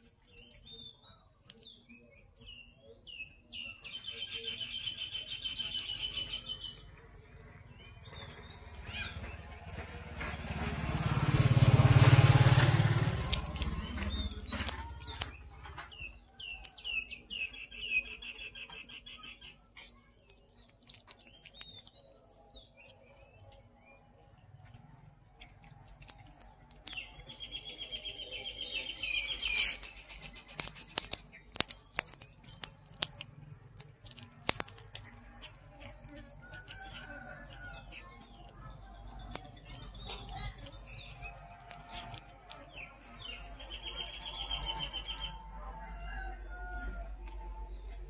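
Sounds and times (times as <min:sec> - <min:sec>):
kitten chewing: 0:00.0 - 0:02.0, 0:06.3 - 0:44.4, 0:46.9 - 0:48.0
small birds chirping: 0:00.0 - 0:48.0.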